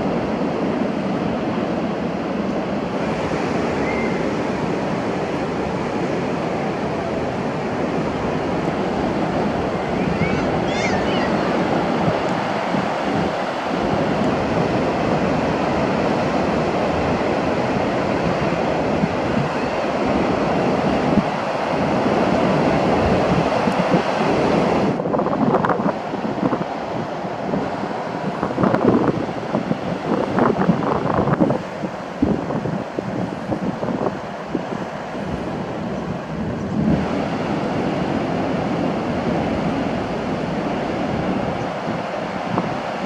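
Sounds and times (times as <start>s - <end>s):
ocean waves breaking on beach: 0.0s - 43.0s
wind buffeting microphone: 0.0s - 43.0s.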